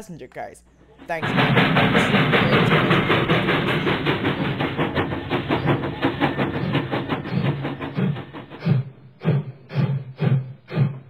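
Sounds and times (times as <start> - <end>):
train clattering: 0.7 - 11.0.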